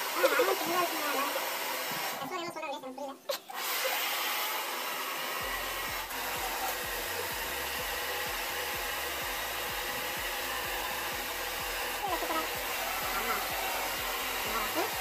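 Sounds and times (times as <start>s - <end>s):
hair dryer blowing: 0.0s - 2.3s, 3.3s - 15.0s.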